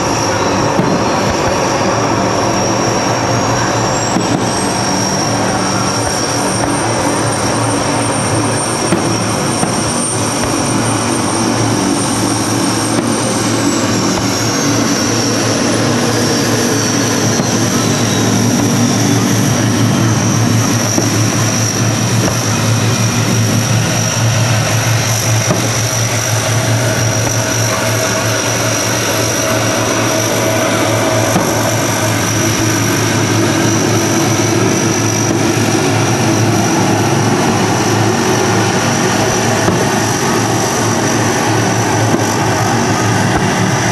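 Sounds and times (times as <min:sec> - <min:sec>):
engine-like drone with whine: 0:00.0 - 0:43.9.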